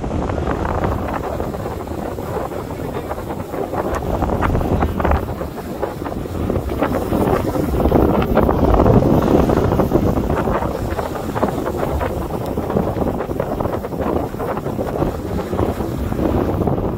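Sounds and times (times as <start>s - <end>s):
skis scraping over snow: 0.0s - 16.9s
wind buffeting microphone: 0.0s - 16.9s.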